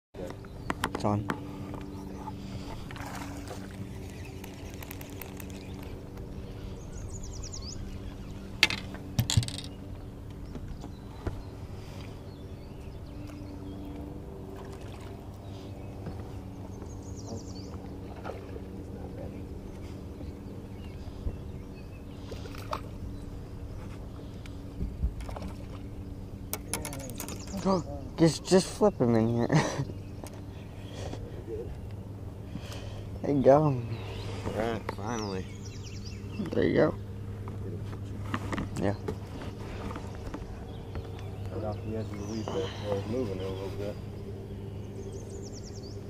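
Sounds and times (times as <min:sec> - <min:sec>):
electric trolling motor humming: 0:00.2 - 0:46.0.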